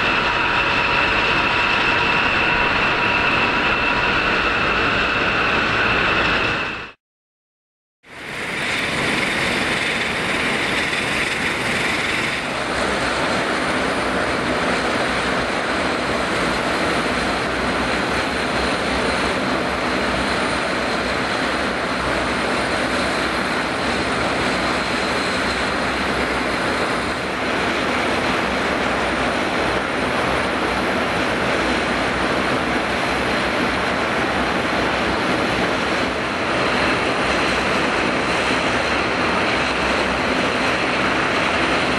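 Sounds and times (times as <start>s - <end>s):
jet engines running: 0.0s - 7.0s, 8.1s - 41.9s.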